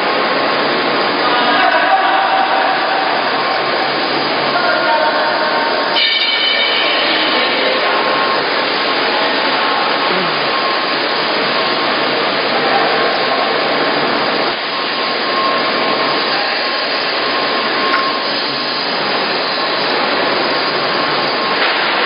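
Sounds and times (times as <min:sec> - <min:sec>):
faint steady whine: 0:00.0 - 0:22.0.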